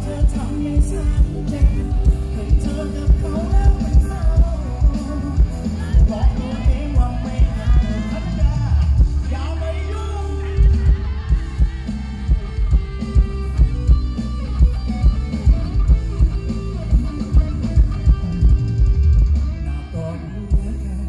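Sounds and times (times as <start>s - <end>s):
man singing: 0.0s - 13.7s, 17.3s - 21.0s
live pop-rock band: 0.0s - 21.0s.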